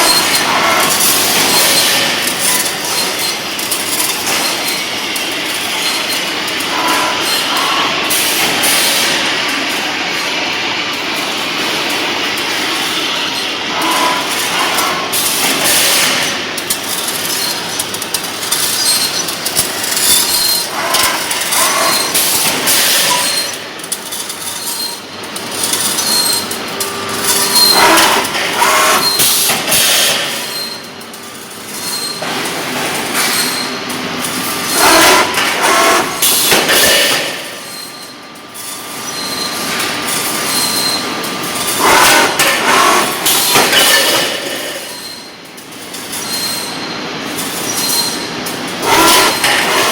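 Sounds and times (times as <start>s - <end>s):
roll-forming machine running: 0.0s - 38.0s, 39.6s - 46.0s, 47.0s - 49.9s.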